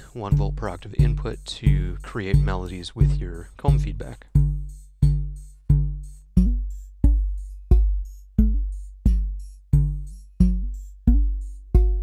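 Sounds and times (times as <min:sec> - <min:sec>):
deep kick drum thumps: 0:00.3 - 0:12.0.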